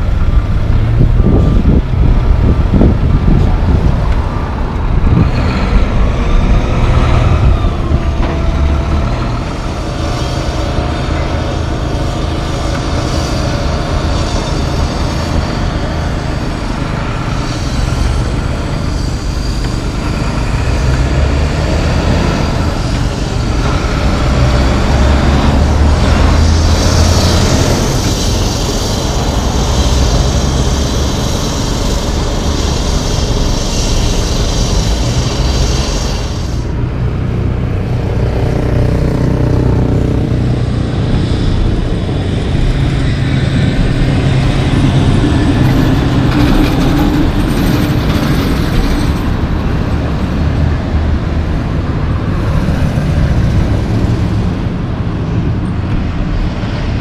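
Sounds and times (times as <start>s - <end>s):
dump truck driving past: 0.0s - 57.0s
road traffic with heavy trucks: 0.0s - 57.0s.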